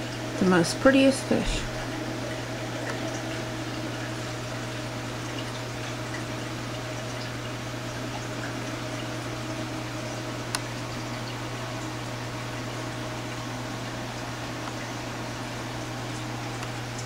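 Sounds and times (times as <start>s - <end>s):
aquarium pump hum: 0.0s - 17.0s
water trickling: 0.0s - 17.0s.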